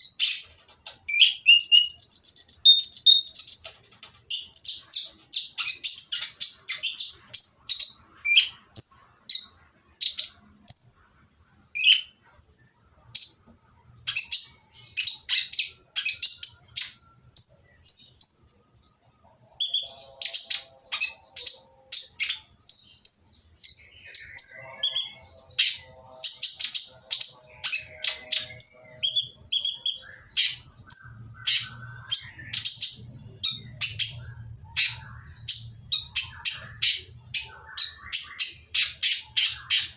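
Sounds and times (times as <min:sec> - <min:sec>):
sunbird chirping and trilling: 0:00.0 - 0:39.9.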